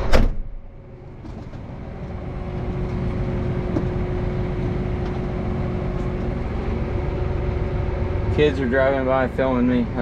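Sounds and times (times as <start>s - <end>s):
steady whine: 0.0s - 10.0s
tractor engine running: 0.5s - 10.0s.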